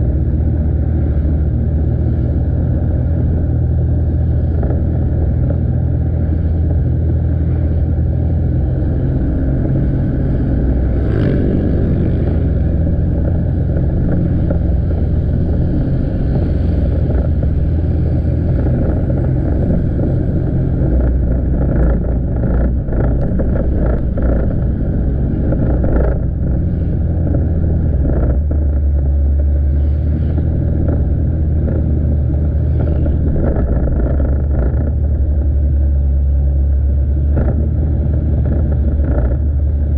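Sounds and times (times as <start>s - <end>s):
motorbike engine running: 0.0s - 39.9s
road noise: 0.0s - 39.9s.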